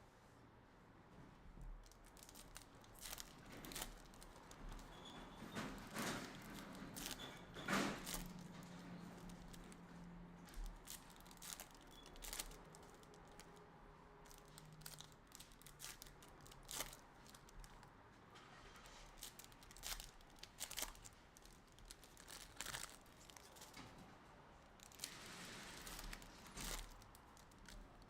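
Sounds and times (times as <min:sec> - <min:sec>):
card pack wrappers crinkling and tearing: 0:01.8 - 0:13.6, 0:14.2 - 0:17.9, 0:18.9 - 0:23.9, 0:24.8 - 0:28.0.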